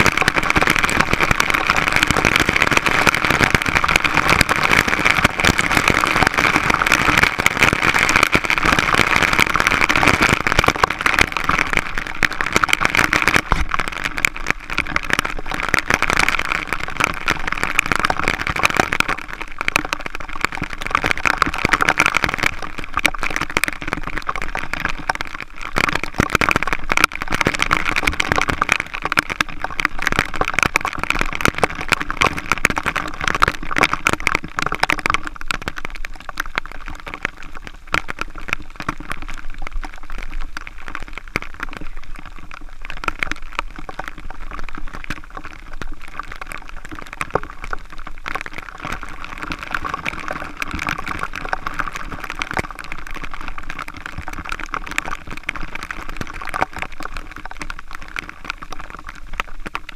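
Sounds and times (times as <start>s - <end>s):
rush of falling water: 0.0s - 59.9s.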